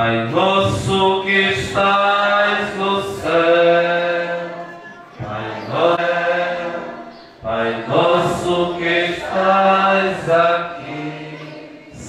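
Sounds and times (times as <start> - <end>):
voices singing a chant: 0.0 - 12.0.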